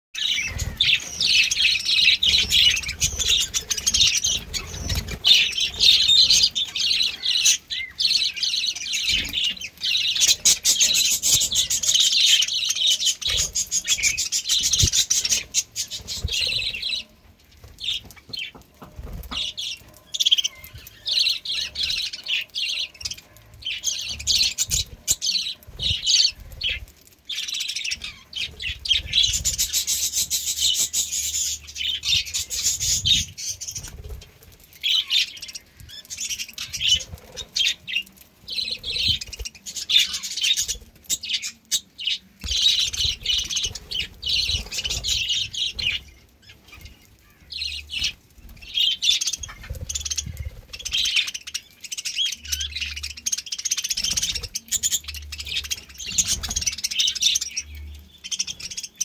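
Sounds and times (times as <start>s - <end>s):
budgerigars chattering and warbling: 0.2s - 17.0s, 17.8s - 59.0s.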